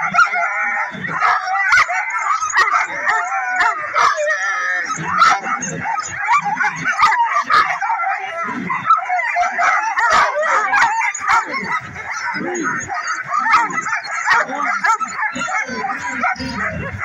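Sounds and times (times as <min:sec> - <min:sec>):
sled dogs barking and howling: 0:00.0 - 0:17.0.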